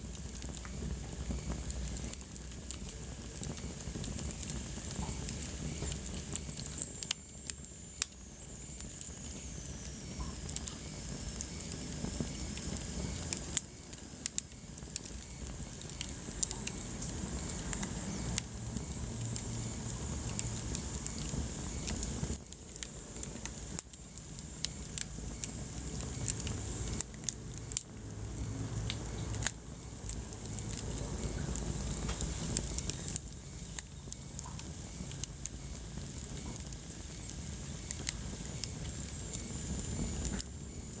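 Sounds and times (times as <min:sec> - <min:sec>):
fire crackling and popping: 0:00.0 - 0:41.0
fire flames rumbling: 0:00.0 - 0:41.0.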